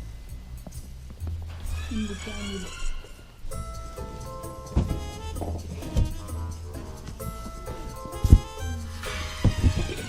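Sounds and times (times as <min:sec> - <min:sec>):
instrumental music: 0:00.0 - 0:10.0.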